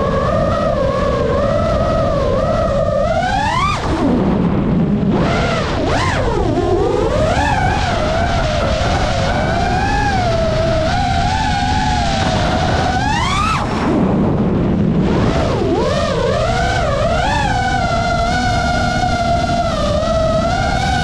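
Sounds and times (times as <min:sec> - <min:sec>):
drone motors whining: 0:00.0 - 0:21.0
rushing air noise: 0:03.4 - 0:20.7.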